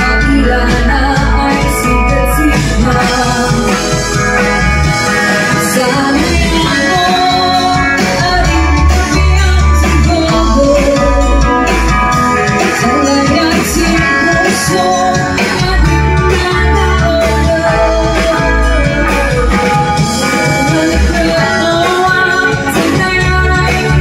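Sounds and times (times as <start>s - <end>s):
woman singing: 0.0s - 4.2s, 5.1s - 24.0s
drum kit: 0.0s - 24.0s
electric bass: 0.0s - 24.0s
electric guitar: 0.0s - 24.0s.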